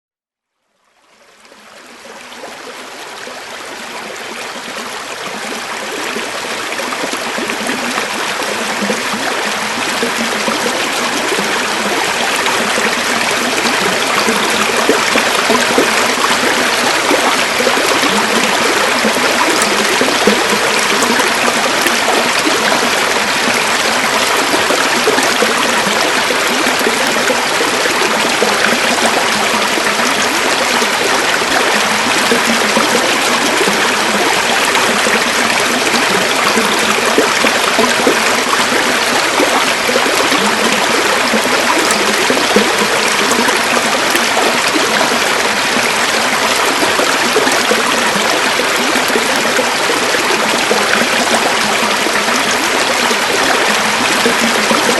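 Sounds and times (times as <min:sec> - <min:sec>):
river water flowing: 0:00.8 - 0:54.9.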